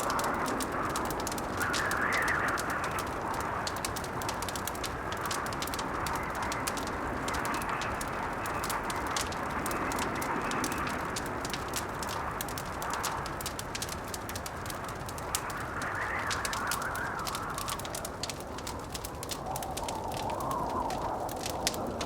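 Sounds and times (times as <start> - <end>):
blizzard wind: 0.0 - 22.0
wood fire crackling and popping: 0.0 - 22.0.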